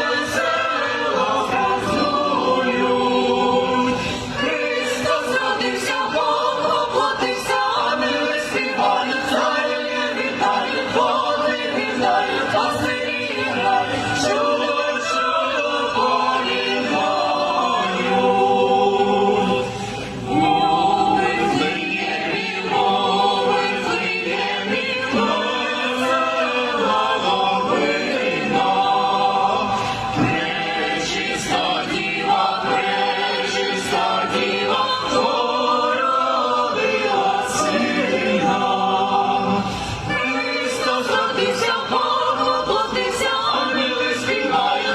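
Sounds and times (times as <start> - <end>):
choir singing a carol: 0.0 - 44.9.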